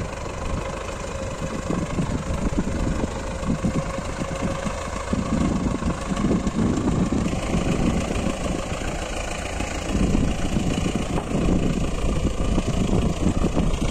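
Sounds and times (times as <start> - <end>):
tractor diesel engine running: 0.0 - 13.9.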